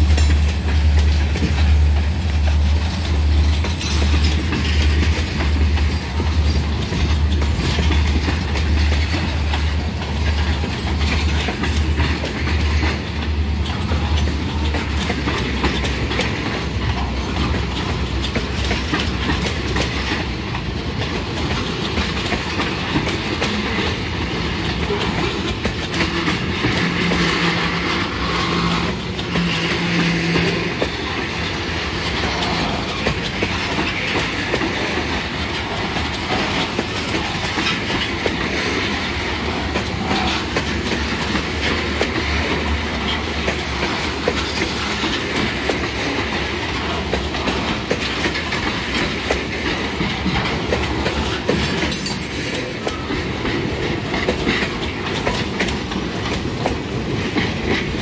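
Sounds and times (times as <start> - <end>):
freight train rolling past: 0.0 - 58.0
wheels clicking over rail joints: 0.0 - 58.0.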